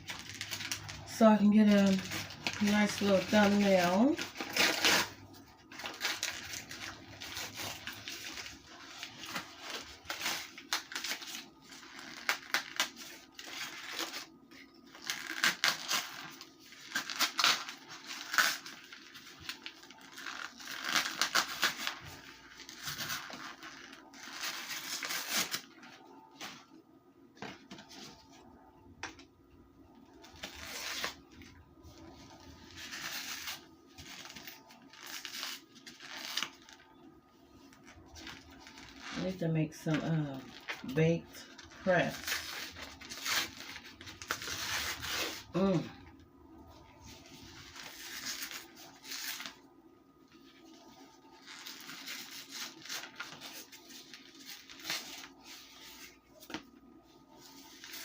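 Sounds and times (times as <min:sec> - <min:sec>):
wrapping crinkling and tearing: 0:00.0 - 0:26.8, 0:30.0 - 0:58.0
faint steady hum: 0:00.0 - 0:58.0.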